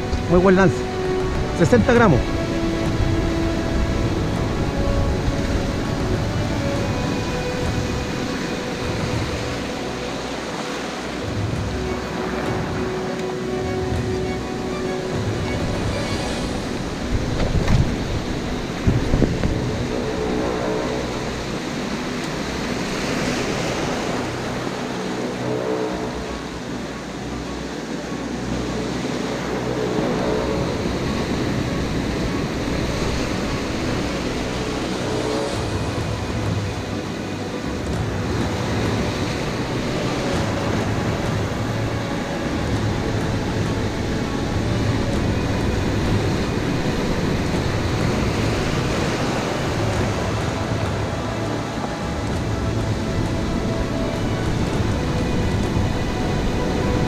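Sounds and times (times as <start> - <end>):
ocean surf breaking on rocks: 0.0 - 57.0
wind rumbling on microphone: 0.0 - 57.0.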